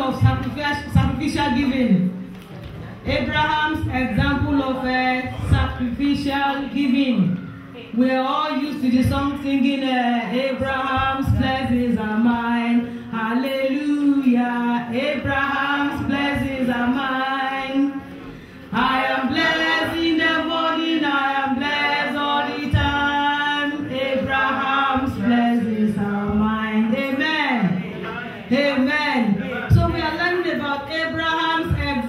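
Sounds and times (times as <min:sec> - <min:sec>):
woman singing into a microphone: 0:03.1 - 0:27.8, 0:28.5 - 0:32.0.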